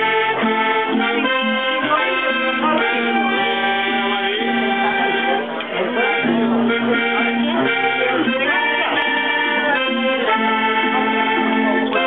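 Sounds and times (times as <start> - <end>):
acoustic guitar strumming: 0.0 - 12.0
button accordion playing: 0.0 - 12.0.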